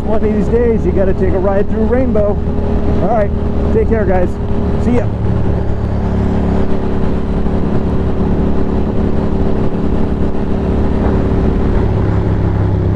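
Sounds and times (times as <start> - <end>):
motorcycle engine running: 0.0 - 12.9
wind and road noise: 0.0 - 12.9.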